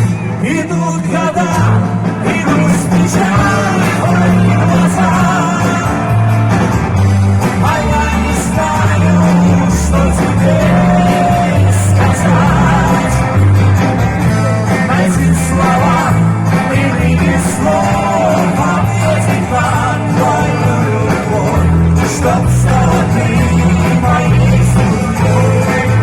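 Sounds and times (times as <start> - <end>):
bass line: 0.0 - 26.0
rock band playing: 0.0 - 26.0
person singing: 0.4 - 6.3, 7.4 - 13.5, 14.6 - 26.0.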